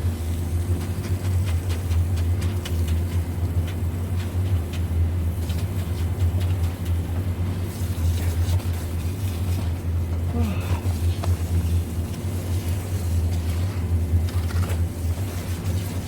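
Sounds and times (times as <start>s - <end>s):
diesel truck engine drone: 0.0s - 16.0s.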